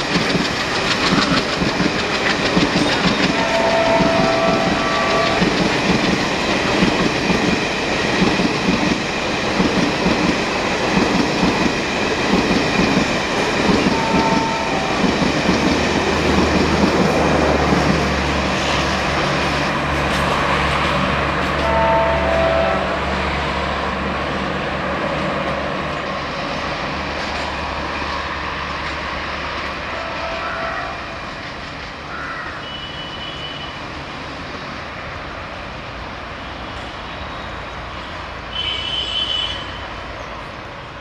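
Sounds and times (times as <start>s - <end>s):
wheels rumbling on track: 0.0s - 38.8s.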